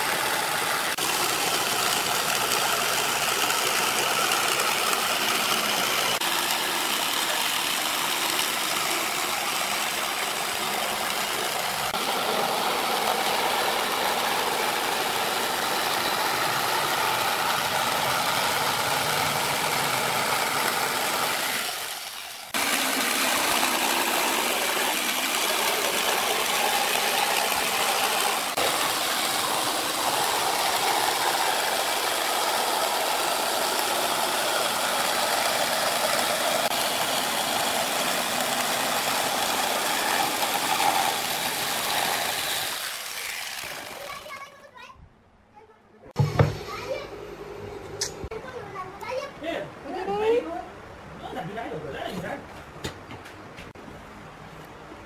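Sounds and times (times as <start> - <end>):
jigsaw cutting wood: 0.0 - 44.5.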